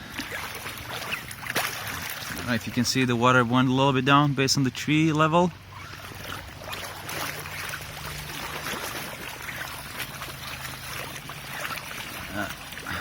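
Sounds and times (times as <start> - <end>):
steady low hum: 0.0 - 13.0
water trickling and splashing: 0.0 - 13.0.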